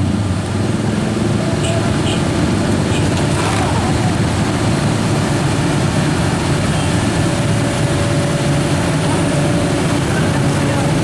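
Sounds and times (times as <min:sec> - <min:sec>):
heavy truck engine rumbling: 0:00.0 - 0:11.0.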